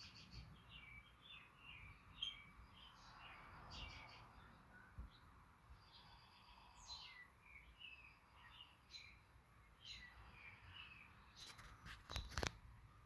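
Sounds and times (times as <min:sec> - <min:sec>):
faint bird chirps and whistles: 0:00.0 - 0:12.4.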